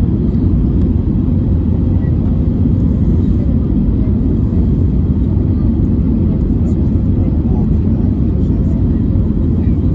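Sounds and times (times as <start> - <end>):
aircraft cabin low rumble: 0.0 - 9.9.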